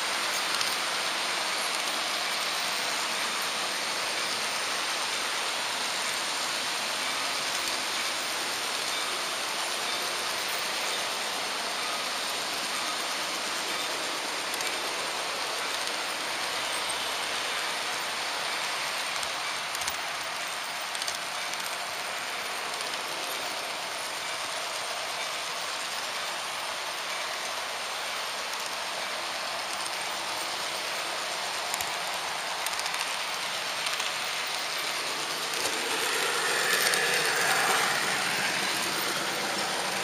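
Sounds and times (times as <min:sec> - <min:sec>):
model train wheels hissing on rails: 0:00.0 - 0:40.0.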